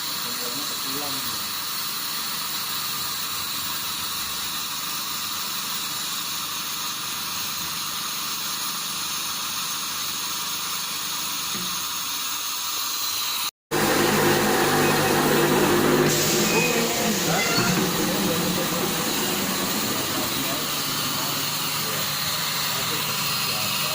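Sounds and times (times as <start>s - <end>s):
machine hissing: 0.0s - 23.9s.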